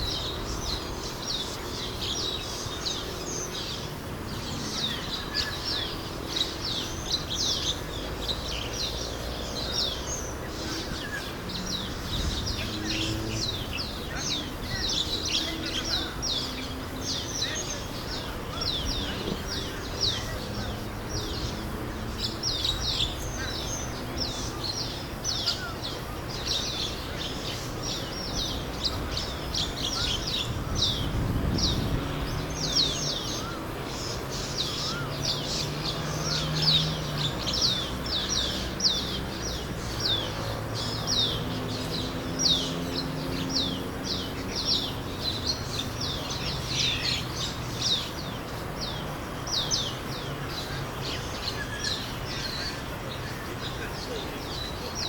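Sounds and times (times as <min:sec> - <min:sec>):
flock of birds chirping: 0:00.0 - 0:55.0.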